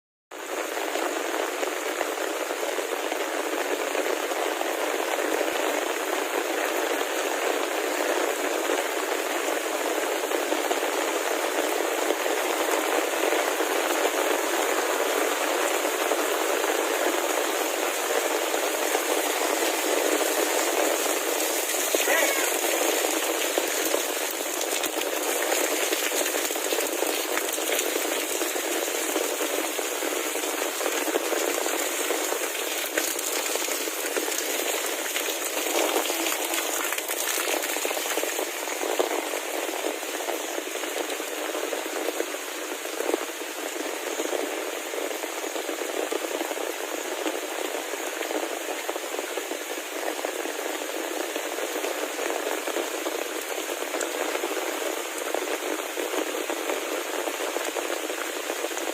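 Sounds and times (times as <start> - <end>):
heavy rain falling: 0.3 - 58.9.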